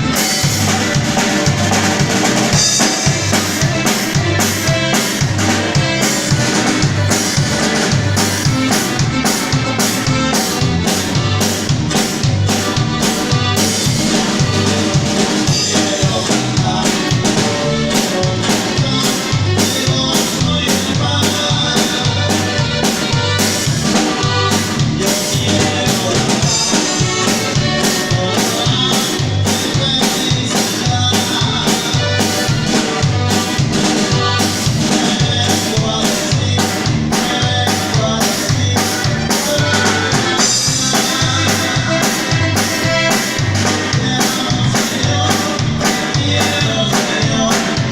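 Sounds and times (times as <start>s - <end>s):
instrumental music with fast drums: 0.0s - 47.9s.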